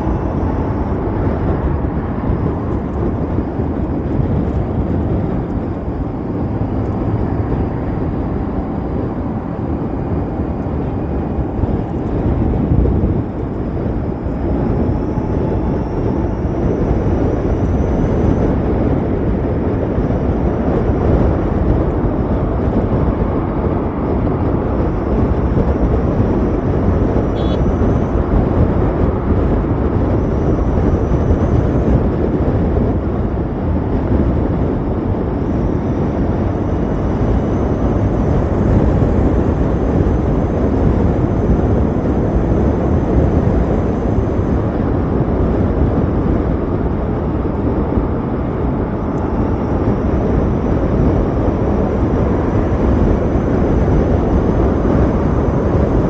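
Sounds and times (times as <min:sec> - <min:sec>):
faint electric motor whine: 0:00.0 - 0:56.0
wind and road noise: 0:00.0 - 0:56.0.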